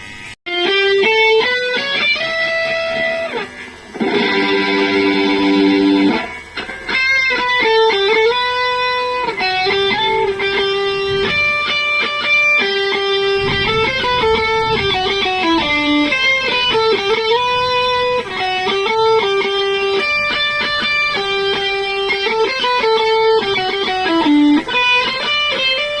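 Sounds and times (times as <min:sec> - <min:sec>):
electric guitar melody with slides: 0:00.0 - 0:26.0.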